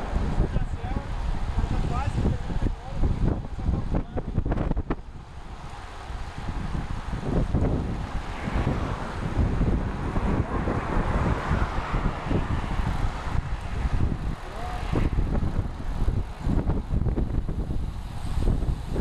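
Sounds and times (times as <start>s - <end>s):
road and traffic noise: 0.0s - 19.0s
wind buffeting microphone: 0.0s - 19.0s.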